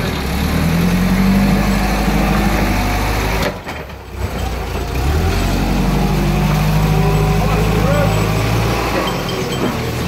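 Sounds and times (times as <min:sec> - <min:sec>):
forklift engine running: 0:00.0 - 0:10.0.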